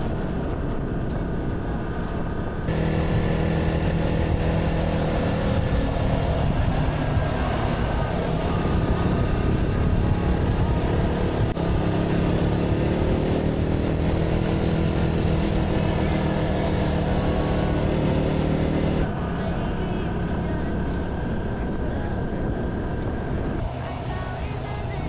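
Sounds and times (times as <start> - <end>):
wind rushing over microphone: 0.0 - 25.0
motorcycle engine running: 2.7 - 21.7, 23.0 - 25.0.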